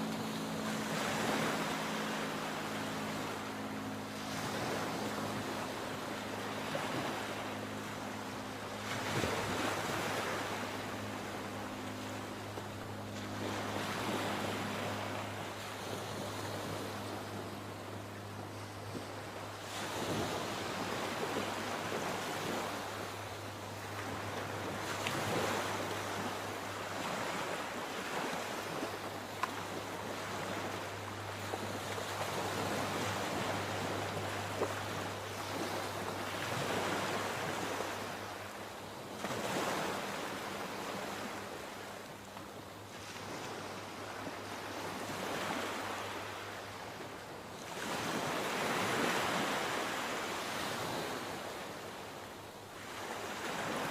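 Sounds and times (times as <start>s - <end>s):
sea waves breaking: 0.0s - 53.9s.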